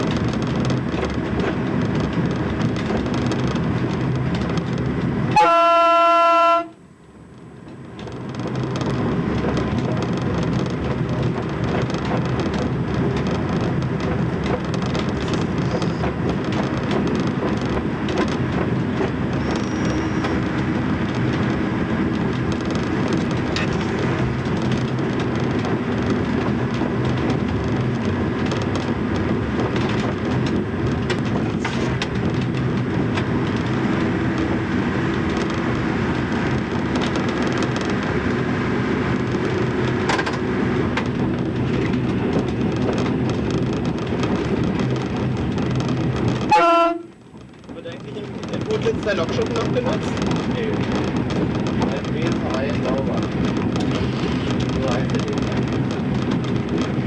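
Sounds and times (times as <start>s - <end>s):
wheels clicking over track: 0.0s - 5.4s, 7.6s - 57.0s
diesel railbus engine drone: 0.0s - 57.0s.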